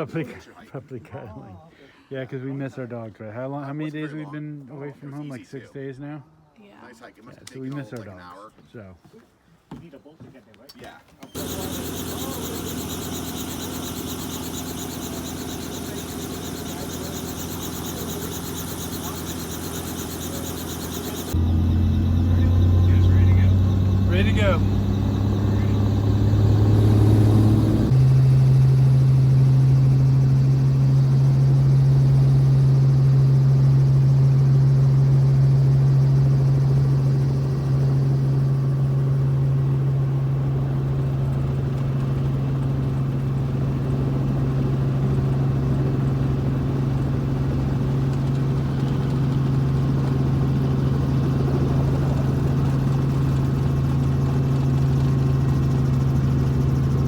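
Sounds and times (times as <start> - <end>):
helicopter engine and rotors: 11.2 - 57.0.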